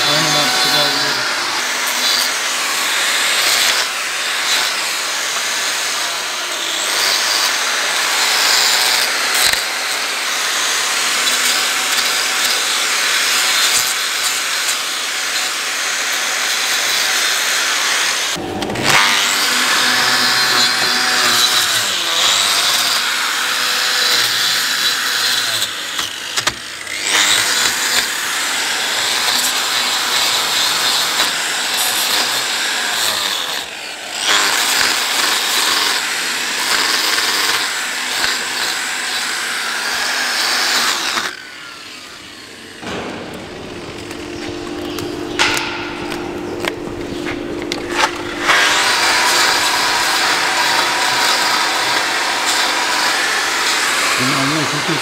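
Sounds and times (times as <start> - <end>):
angle grinder grinding rasp: 0.0 - 42.9, 44.0 - 55.0.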